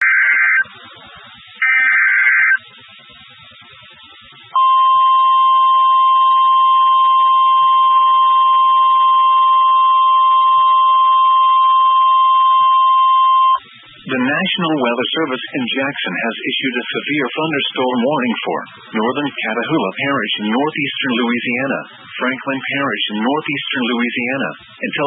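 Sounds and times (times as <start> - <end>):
steady warning alarm tone: 1.4 - 25.0.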